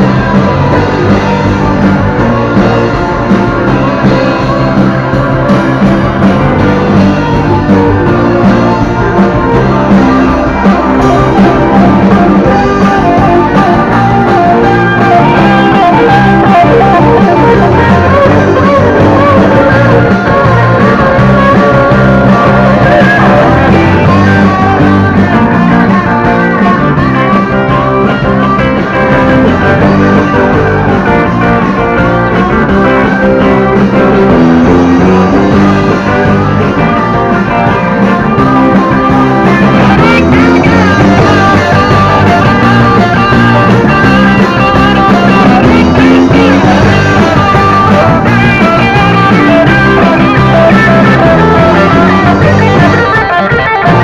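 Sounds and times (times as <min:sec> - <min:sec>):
lead guitar bending: 0:00.0 - 0:54.0
rock band playing: 0:00.0 - 0:54.0.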